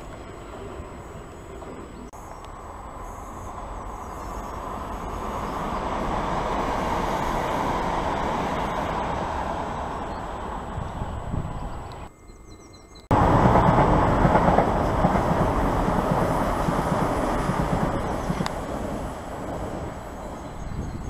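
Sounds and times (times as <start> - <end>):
train wheels rumbling on track: 0.0 - 12.1, 13.1 - 21.0.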